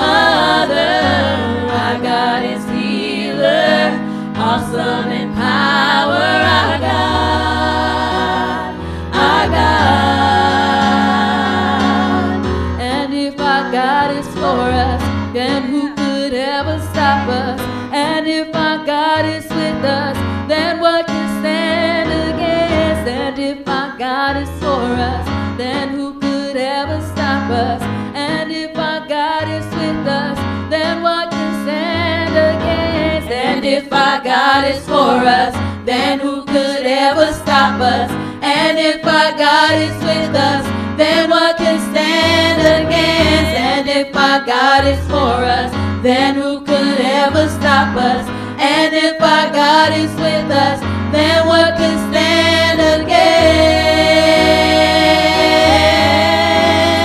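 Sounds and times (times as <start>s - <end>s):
electric keyboard: 0.0s - 57.0s
women singing gospel song: 0.0s - 57.0s.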